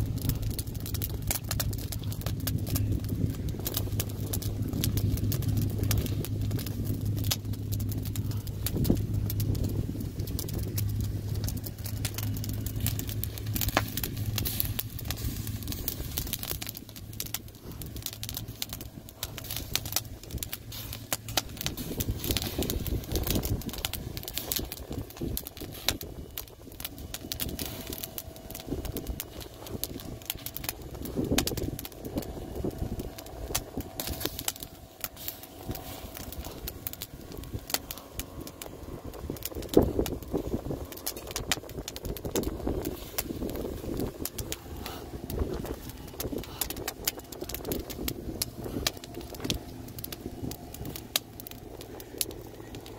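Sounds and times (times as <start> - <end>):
low steady hum: 0.0 - 52.9
wood fire crackling and popping: 0.0 - 52.9.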